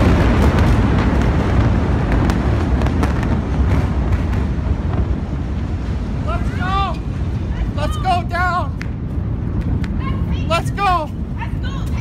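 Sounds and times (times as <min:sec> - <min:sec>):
explosion rumbling roar: 0:00.0 - 0:09.8
burning debris crackling: 0:00.0 - 0:12.0.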